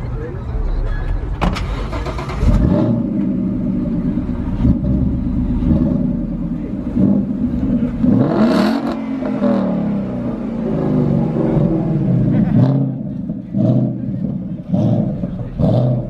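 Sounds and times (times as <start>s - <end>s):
truck engine revving: 1.5s - 16.0s.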